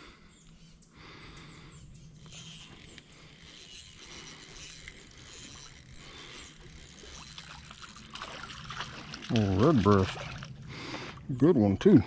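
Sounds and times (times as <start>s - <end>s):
fishing reel gears whirring: 2.0s - 12.0s.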